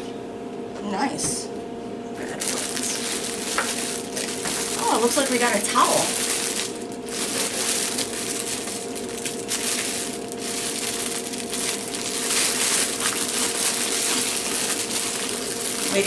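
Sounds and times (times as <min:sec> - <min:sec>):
faint steady hum: 0:00.0 - 0:16.0
plastic packaging crinkling: 0:02.2 - 0:16.0.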